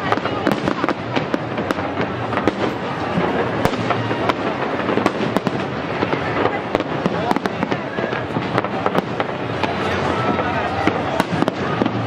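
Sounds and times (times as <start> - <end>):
continuous rumbling: 0.0 - 12.0
fireworks bangs and crackles: 0.0 - 12.0.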